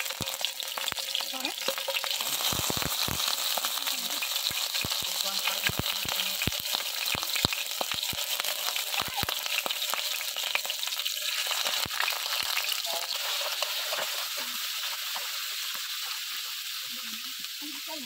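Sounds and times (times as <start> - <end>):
livers sizzling in hot oil: 0.0 - 18.0.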